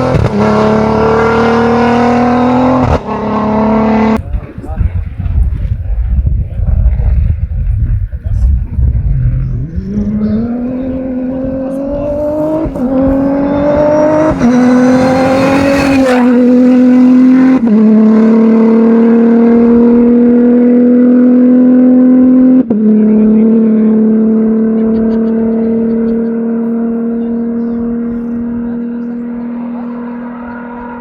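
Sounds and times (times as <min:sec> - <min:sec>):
car engine accelerating hard: 0:00.0 - 0:05.7, 0:06.4 - 0:31.0.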